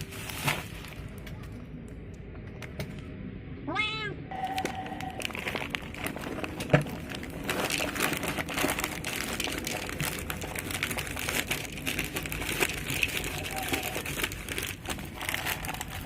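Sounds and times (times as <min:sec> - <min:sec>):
crinkling and crackling: 0:00.0 - 0:03.1, 0:04.3 - 0:16.0.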